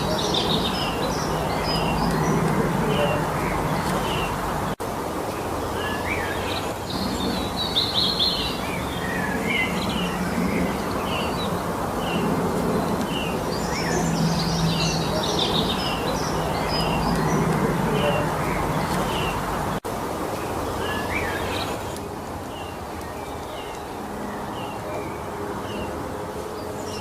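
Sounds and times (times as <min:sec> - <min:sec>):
songbirds chirping and trilling: 0:00.0 - 0:27.0
steady background hiss: 0:00.0 - 0:27.0.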